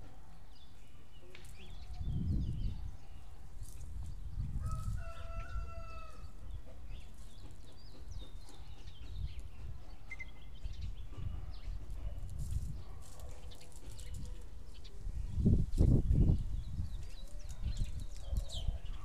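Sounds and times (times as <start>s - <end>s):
low wind rumble on microphone: 1.6s - 19.0s.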